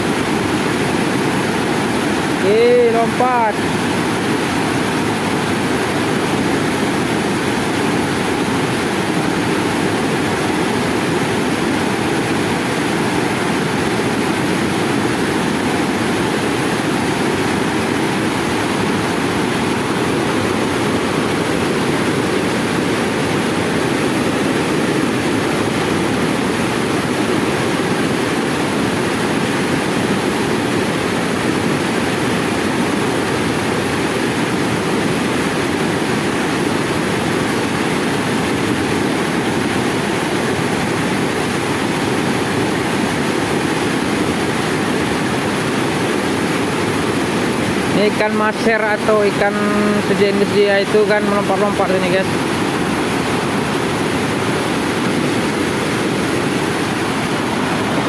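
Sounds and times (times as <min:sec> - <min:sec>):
water rushing over a weir: 0:00.0 - 0:58.0.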